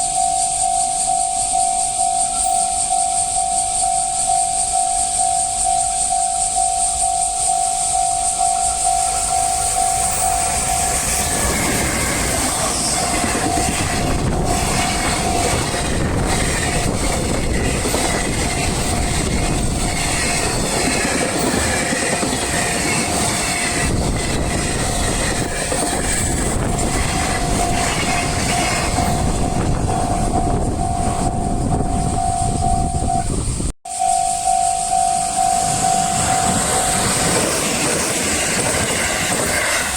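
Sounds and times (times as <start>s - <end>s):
train wheels rumbling on rails: 0.0s - 33.7s, 34.8s - 39.9s
level crossing warning bell: 0.0s - 39.0s
rail joint clacks: 1.4s - 33.2s, 34.9s - 39.9s.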